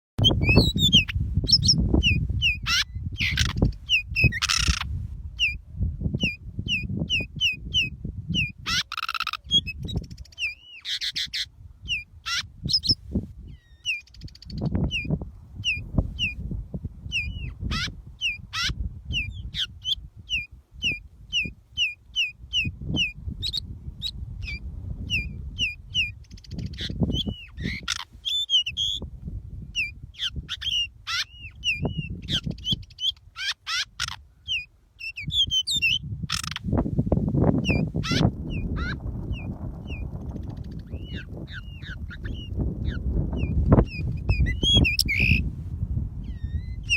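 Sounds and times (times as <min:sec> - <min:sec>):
bird chirping: 0:00.2 - 0:05.6, 0:06.2 - 0:16.4, 0:17.0 - 0:29.0, 0:29.7 - 0:36.7, 0:37.6 - 0:45.5.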